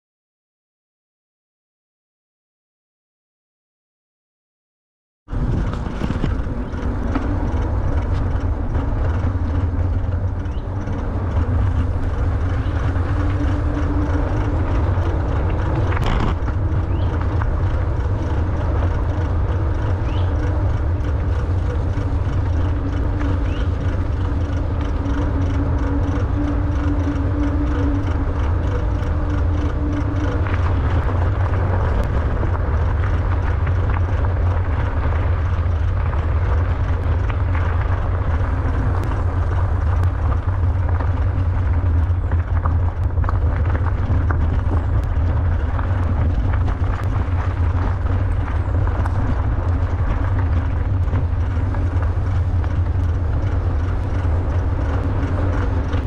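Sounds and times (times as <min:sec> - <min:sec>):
faint hum: 0:05.3 - 0:56.0
tyres rolling over trail: 0:05.3 - 0:56.0
wind buffeting microphone: 0:05.3 - 0:56.0.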